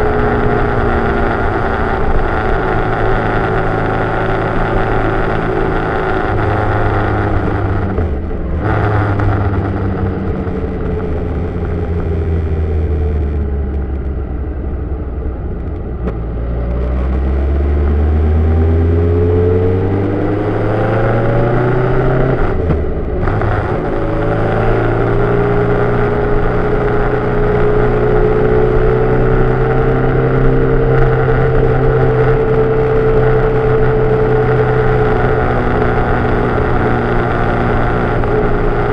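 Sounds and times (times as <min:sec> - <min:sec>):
road and wind noise: 0:00.0 - 0:38.9
vehicle engine: 0:00.0 - 0:38.9.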